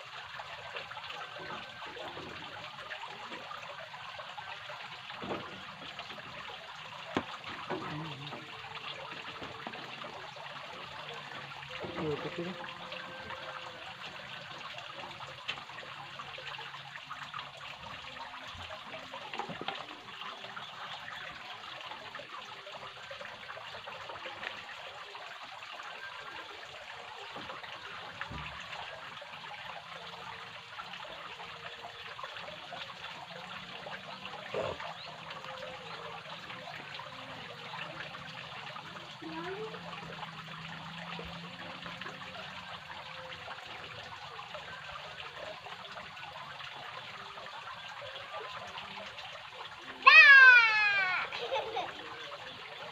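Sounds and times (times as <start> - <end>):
running water trickling: 0.0 - 52.9.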